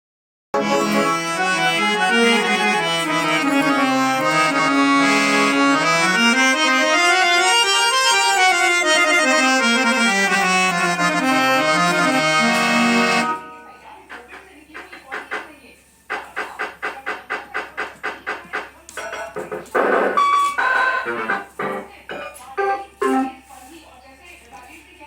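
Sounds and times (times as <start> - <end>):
harmonium and keyboard melody: 0.6 - 15.5, 17.3 - 23.7.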